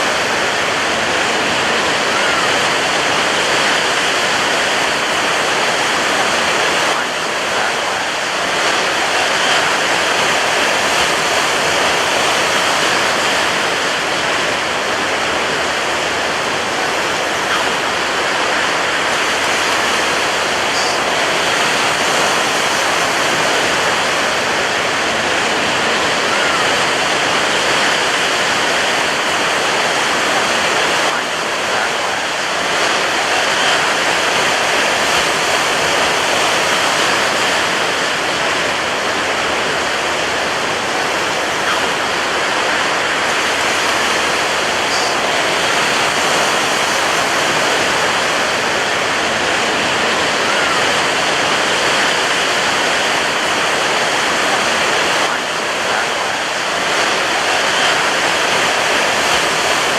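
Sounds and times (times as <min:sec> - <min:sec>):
waves crashing on beach: 0:00.0 - 0:59.9.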